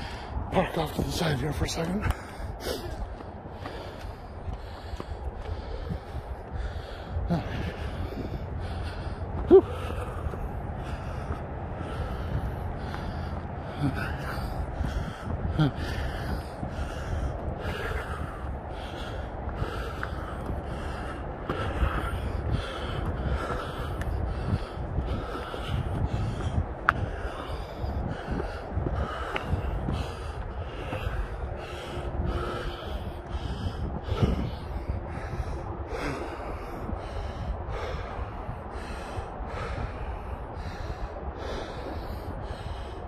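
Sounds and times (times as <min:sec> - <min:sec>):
low microphone rumble: 0:00.0 - 0:43.0
person breathing hard: 0:00.0 - 0:43.0.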